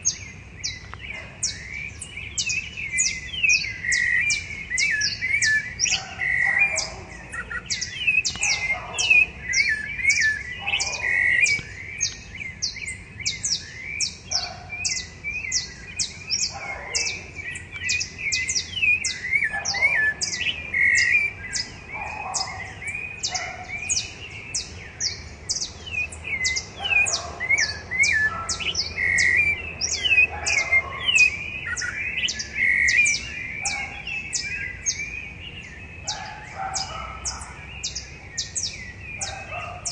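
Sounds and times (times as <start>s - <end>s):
thrushes singing: 0.0s - 39.9s.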